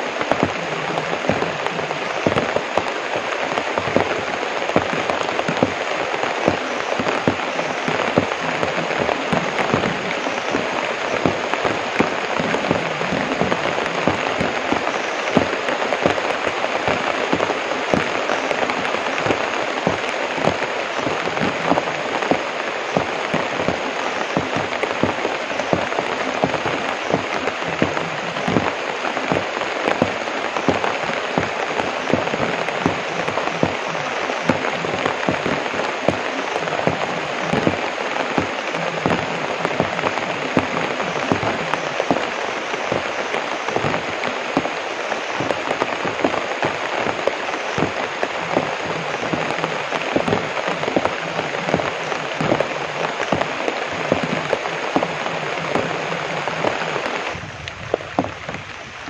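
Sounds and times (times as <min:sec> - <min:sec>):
heavy rain on leaves: 0:00.0 - 0:59.0.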